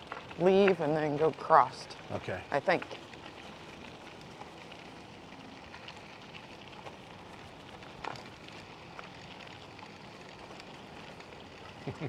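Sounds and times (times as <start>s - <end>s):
scooter tyres rolling on gravel: 0.0s - 12.0s.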